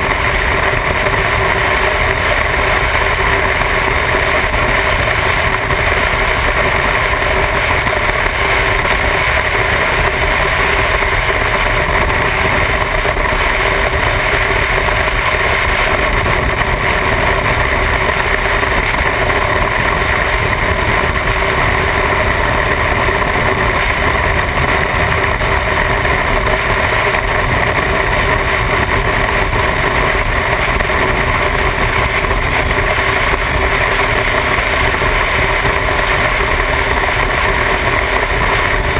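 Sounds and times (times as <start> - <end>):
wind rush: 0.0 - 38.9.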